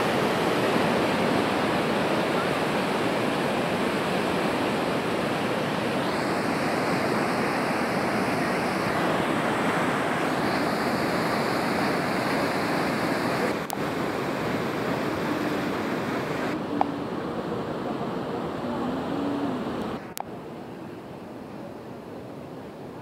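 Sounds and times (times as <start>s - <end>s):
river water roaring: 0.0s - 23.0s.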